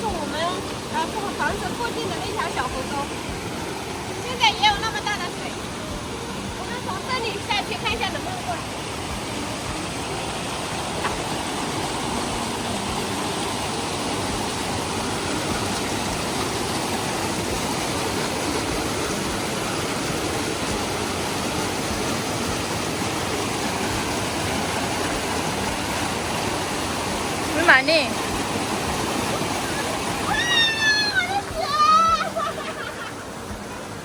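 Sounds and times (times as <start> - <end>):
river water roaring: 0.0 - 34.0.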